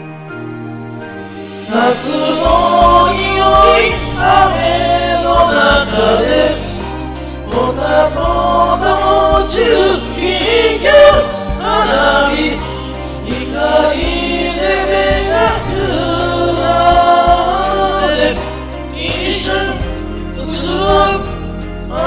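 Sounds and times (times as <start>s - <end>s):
karaoke backing track: 0.0s - 22.0s
people singing into microphones: 1.4s - 22.0s.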